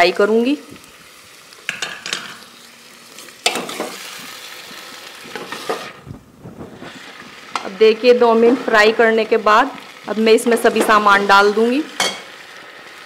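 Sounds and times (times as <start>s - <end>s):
potatoes sizzling in hot oil: 0.0s - 13.0s.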